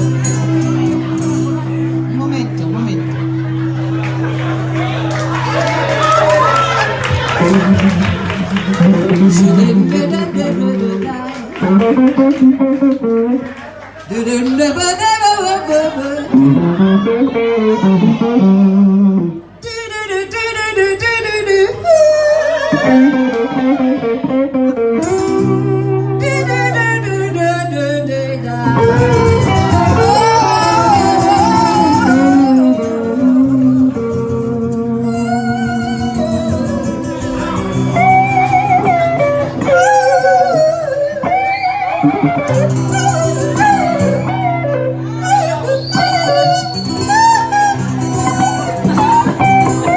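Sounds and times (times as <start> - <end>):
live band with guitar: 0.0 - 49.9.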